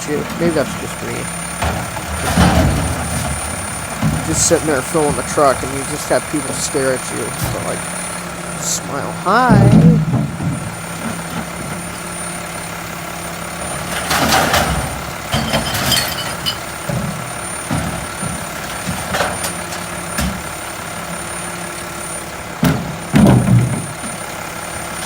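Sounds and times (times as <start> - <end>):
recyclables clattering into hopper: 0.0 - 12.5, 13.4 - 21.5, 22.3 - 24.1
truck engine idling: 0.0 - 25.0.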